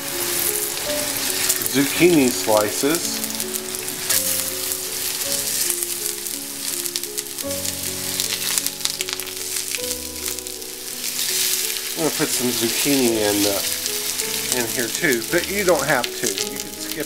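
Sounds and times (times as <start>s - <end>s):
soft background music: 0.0s - 17.0s
vegetables sizzling in oil: 0.0s - 17.0s.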